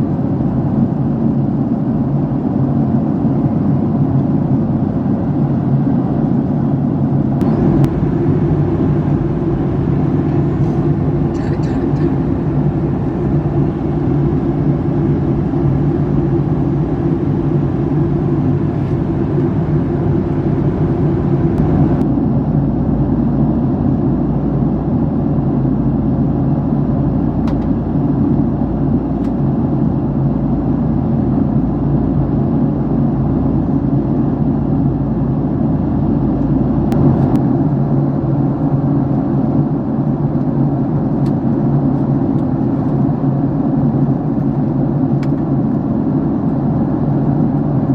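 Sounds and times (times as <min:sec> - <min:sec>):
jet cabin engine and airflow drone: 0:00.0 - 0:47.9
low rumble: 0:00.0 - 0:47.9.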